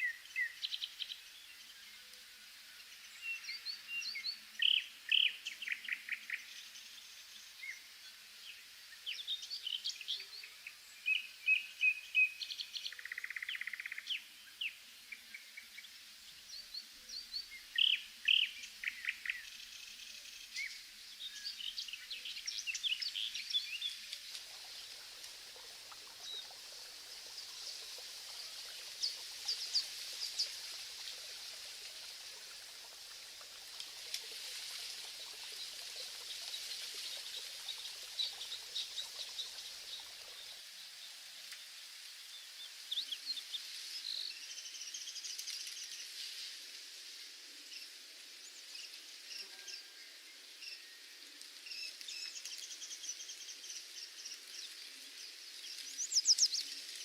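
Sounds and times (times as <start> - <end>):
steady high hiss: 0.0 - 49.3.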